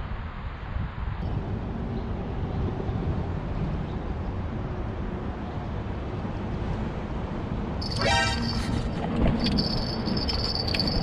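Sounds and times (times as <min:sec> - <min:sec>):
traffic rumble on bridge: 0:00.0 - 0:11.0.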